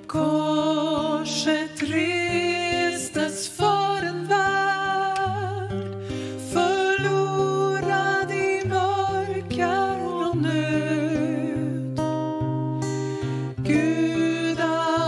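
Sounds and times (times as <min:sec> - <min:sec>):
women singing: 0:00.0 - 0:12.5, 0:13.2 - 0:15.0
strummed acoustic guitar: 0:00.0 - 0:15.0.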